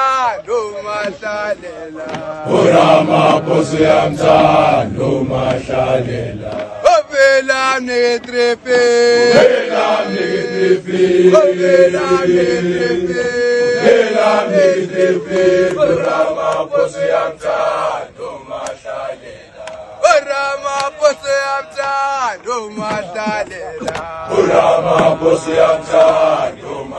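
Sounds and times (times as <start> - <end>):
boys singing a group chant: 0.0 - 26.9.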